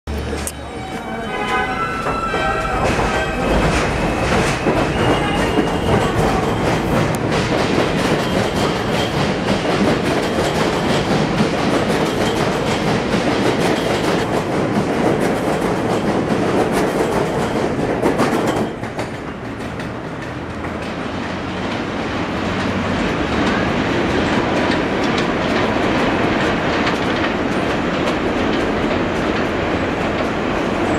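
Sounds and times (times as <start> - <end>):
train rumble: 0.1 - 30.9
train wheels clattering over rails: 2.0 - 30.9.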